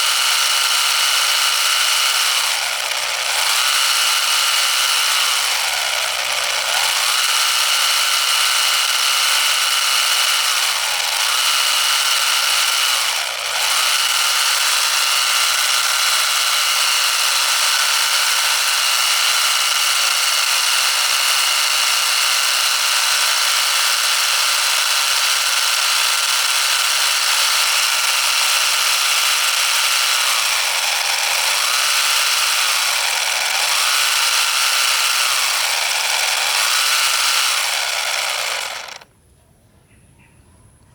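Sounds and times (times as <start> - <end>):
miniature diesel engine whining: 0.0 - 39.1.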